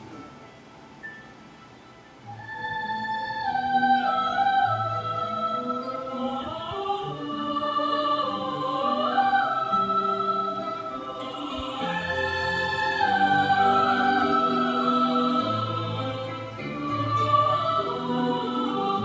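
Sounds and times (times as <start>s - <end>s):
choir arrangement music: 0.0s - 19.0s.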